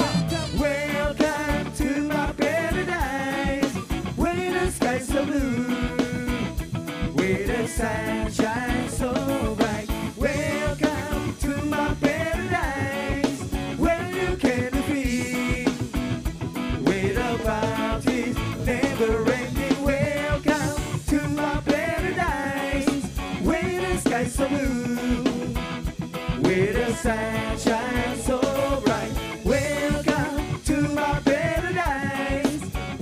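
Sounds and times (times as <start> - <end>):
drum kit: 0.0 - 33.0
electric guitar: 0.0 - 33.0
man singing: 0.0 - 33.0.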